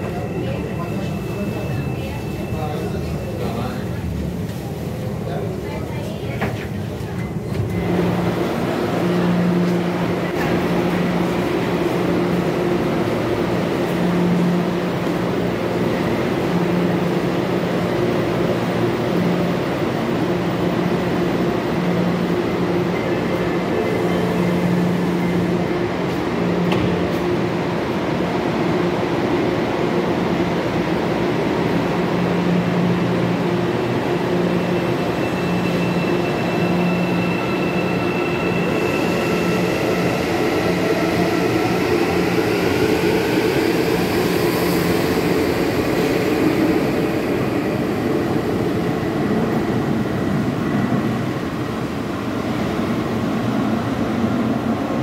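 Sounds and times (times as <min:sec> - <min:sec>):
train hum and rail rumble: 0:00.0 - 0:55.0.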